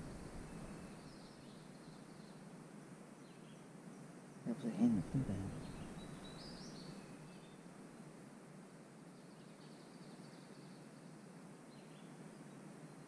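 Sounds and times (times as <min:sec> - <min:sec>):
songbird chirps: 0:00.0 - 0:02.5, 0:03.1 - 0:07.7, 0:09.1 - 0:13.0
faint steady hiss: 0:00.0 - 0:13.0.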